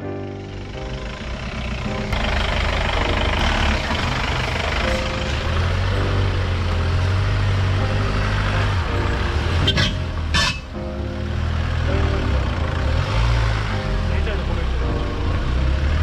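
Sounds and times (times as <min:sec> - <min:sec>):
off-road vehicle engines rumbling: 0:00.0 - 0:16.0.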